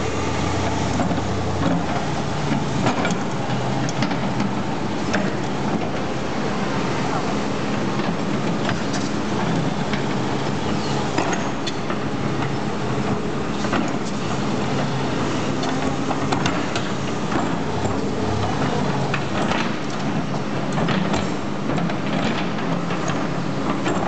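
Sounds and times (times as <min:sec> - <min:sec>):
excavator diesel engine: 0:00.0 - 0:24.0.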